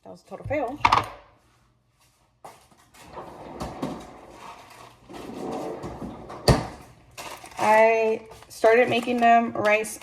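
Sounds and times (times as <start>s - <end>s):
objects rustling and clattering: 1.4s - 10.0s.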